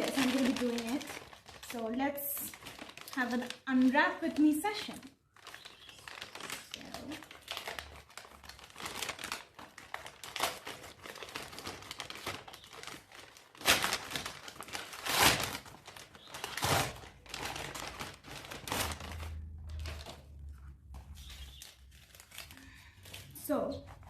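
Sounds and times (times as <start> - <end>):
packaging crinkling and tearing: 0.0 - 24.0.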